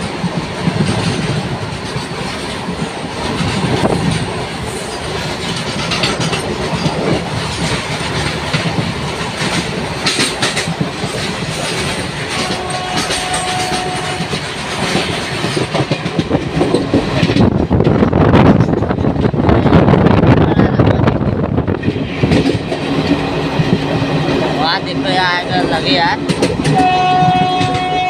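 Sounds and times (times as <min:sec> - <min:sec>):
wheels clattering on rail joints: 0:00.0 - 0:20.0, 0:20.8 - 0:28.0
train coaches rushing past: 0:00.0 - 0:28.0.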